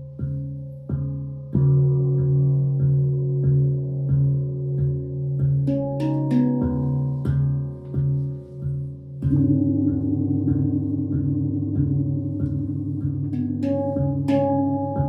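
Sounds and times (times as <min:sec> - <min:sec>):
gongs struck with soft mallets: 0:00.0 - 0:15.0.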